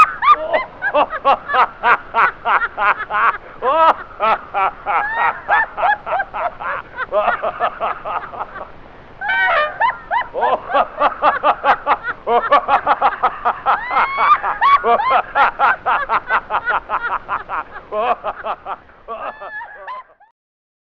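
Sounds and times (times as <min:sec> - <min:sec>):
people laughing hard: 0:00.0 - 0:20.3.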